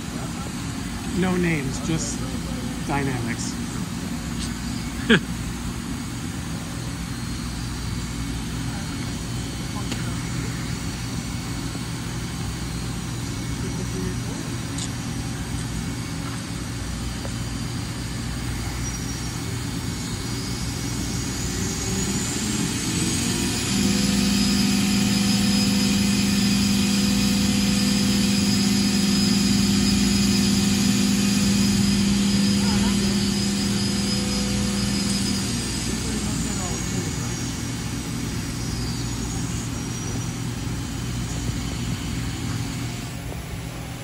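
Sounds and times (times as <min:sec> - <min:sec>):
loud steady drone: 0:00.0 - 0:44.0
machine humming: 0:00.0 - 0:44.0
whine rising in pitch: 0:00.0 - 0:44.0.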